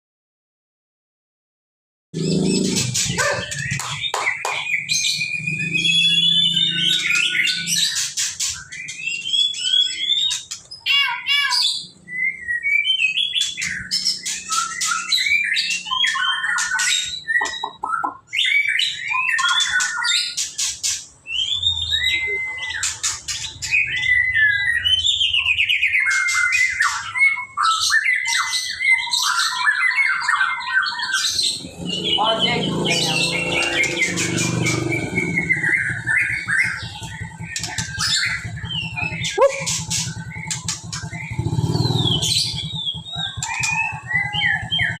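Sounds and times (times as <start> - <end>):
songbird singing: 2.2 - 45.0.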